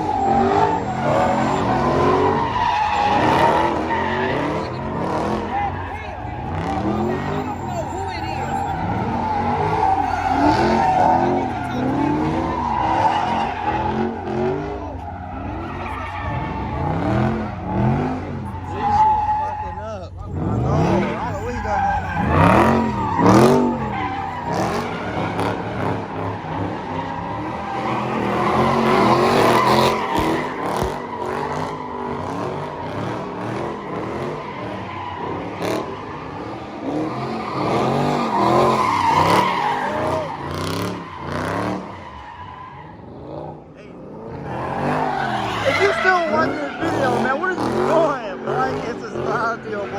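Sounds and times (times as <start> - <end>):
tyres squealing: 0.0 - 43.2, 43.9 - 49.9
car engine revving: 0.0 - 49.9.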